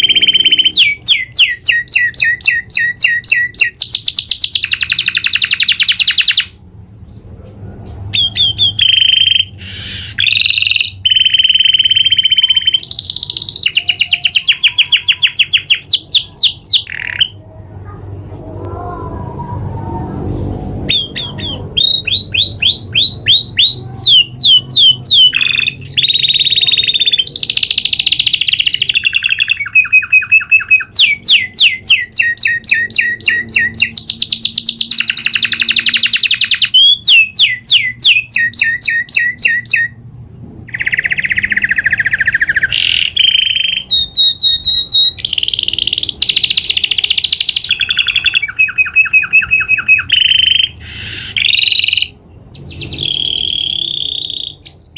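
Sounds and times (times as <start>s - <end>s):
canary singing trills: 0.0s - 18.2s, 20.3s - 40.1s, 40.7s - 54.9s.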